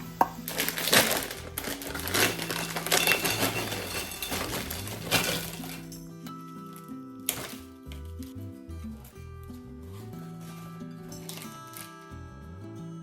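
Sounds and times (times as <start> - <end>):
background music with bass line: 0.0 - 13.0.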